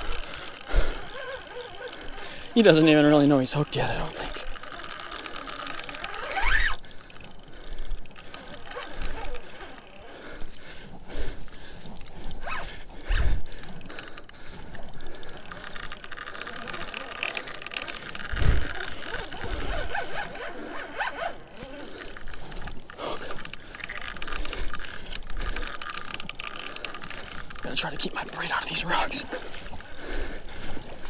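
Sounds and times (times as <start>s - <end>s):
fishing reel gears and drag: 0.0s - 31.0s.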